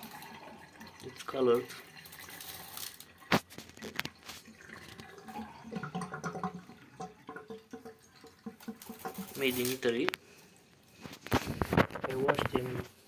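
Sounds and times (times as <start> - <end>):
gravel trickling into plastic bowl: 0.0 - 6.2, 8.2 - 13.0.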